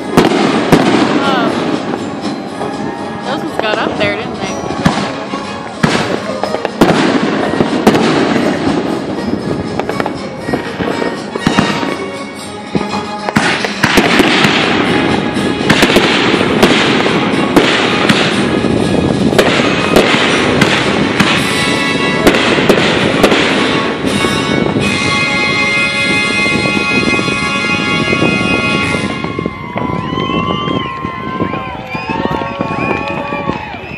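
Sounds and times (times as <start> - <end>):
fireworks bursting and crackling: 0.0 - 33.9.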